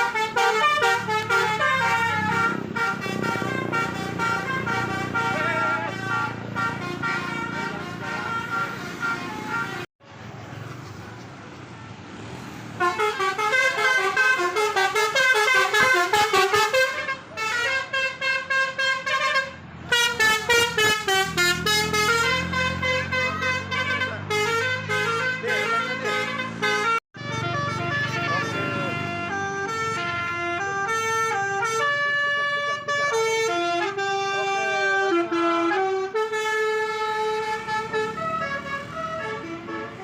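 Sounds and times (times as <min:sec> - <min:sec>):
musical car horn tunes: 0:00.0 - 0:09.9, 0:12.8 - 0:40.0
road and engine noise: 0:00.0 - 0:40.0.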